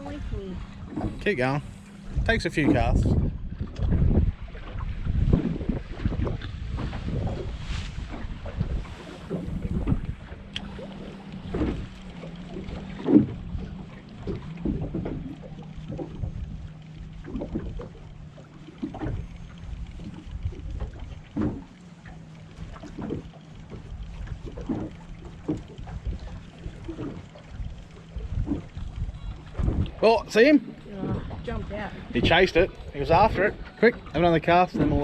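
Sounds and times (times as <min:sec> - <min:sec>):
low steady hum: 0:00.0 - 0:35.0
water slapping boat hull: 0:00.0 - 0:35.0
wind on microphone: 0:00.0 - 0:35.0.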